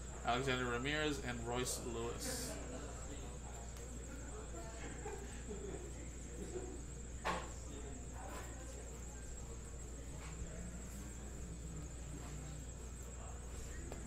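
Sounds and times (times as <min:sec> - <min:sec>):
low hum with high whine: 0:00.0 - 0:14.0.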